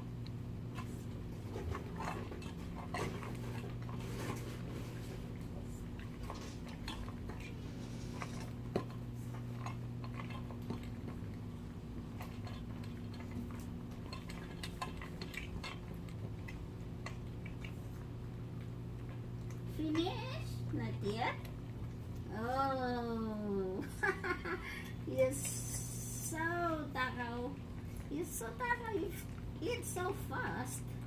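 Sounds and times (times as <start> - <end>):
steady low hum: 0.0 - 31.0
dogs eating from bowls: 0.1 - 31.0.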